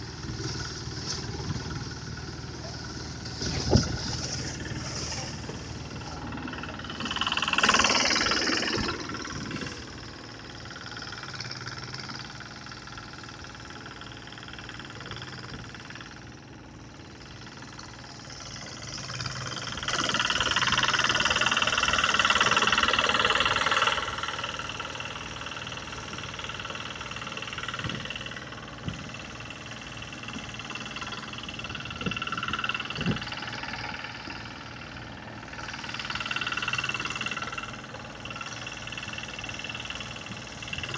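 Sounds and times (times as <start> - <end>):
threshing blower engine pulsing: 0.0 - 40.9.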